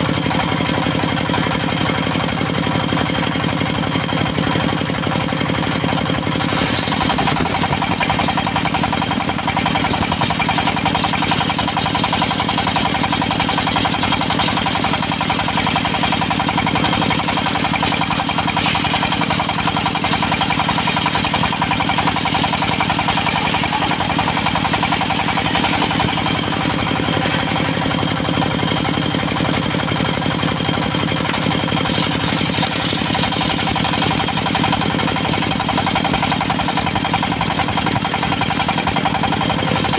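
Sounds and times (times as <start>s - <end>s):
sawmill diesel engine running: 0.0s - 39.9s.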